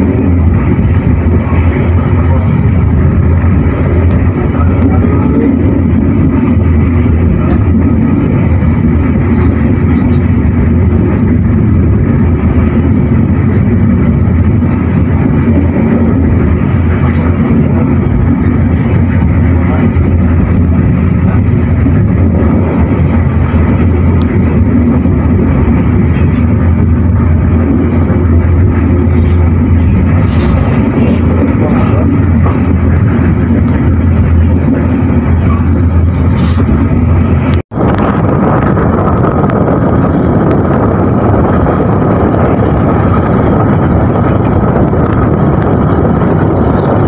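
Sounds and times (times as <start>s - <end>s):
commuter train rumbling: 0.0s - 47.0s.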